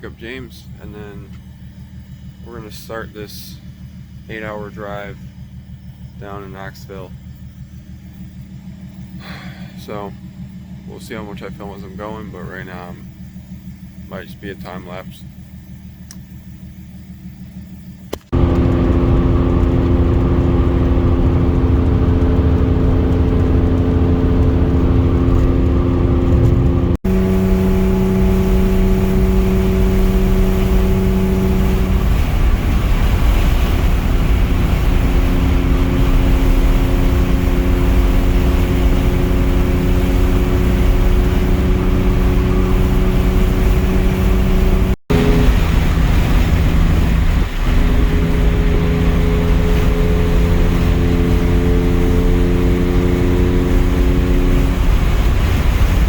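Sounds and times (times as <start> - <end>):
car engine droning: 0.0 - 56.0
road and wind noise: 0.0 - 56.0.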